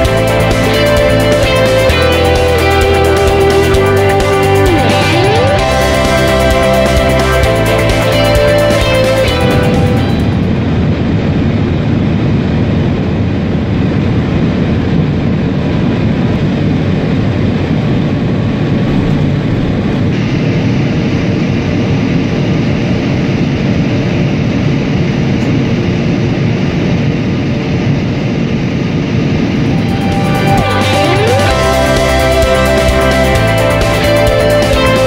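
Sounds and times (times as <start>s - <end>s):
high-speed train rushing: 0.0s - 35.0s.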